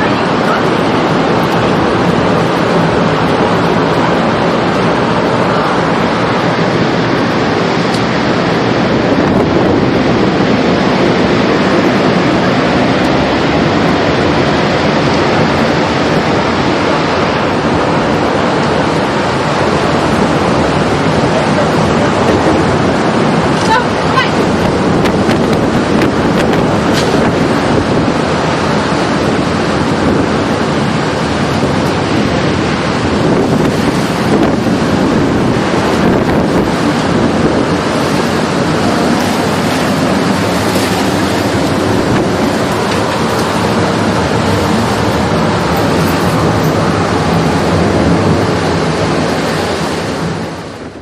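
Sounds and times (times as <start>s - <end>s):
loud steady rushing noise: 0.0s - 51.0s.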